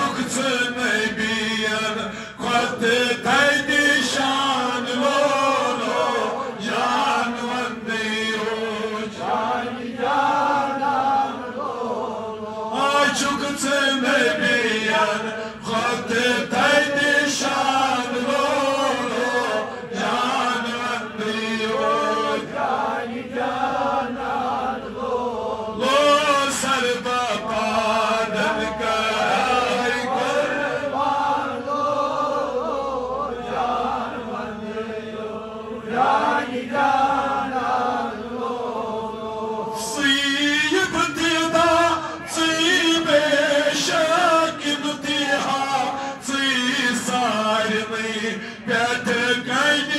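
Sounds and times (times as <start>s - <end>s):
man chanting into microphone: 0.0s - 23.4s, 24.0s - 34.8s, 36.4s - 49.9s.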